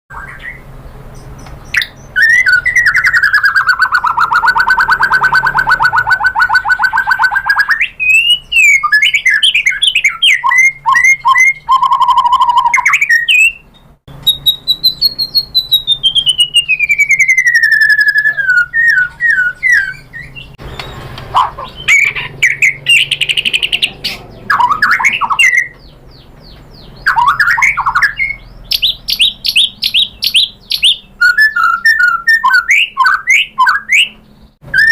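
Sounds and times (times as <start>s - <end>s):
bird singing trills and whistles: 0.1s - 34.9s.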